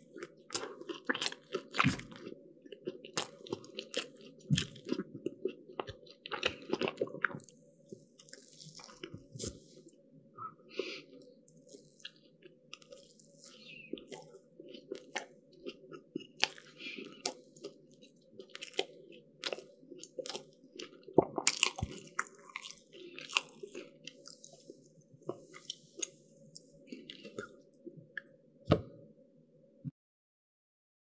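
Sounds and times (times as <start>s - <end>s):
crunchy pastry chewing: 0.0s - 9.8s, 11.1s - 28.2s.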